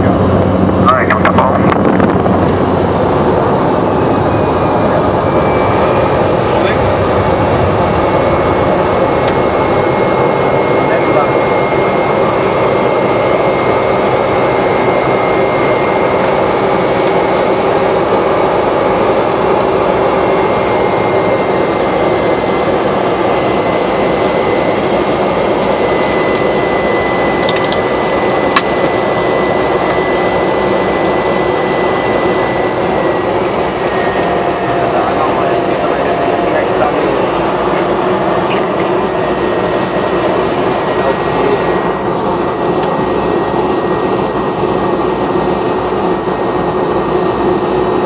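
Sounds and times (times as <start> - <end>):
turboprop engine drone and whine: 0.0 - 48.0.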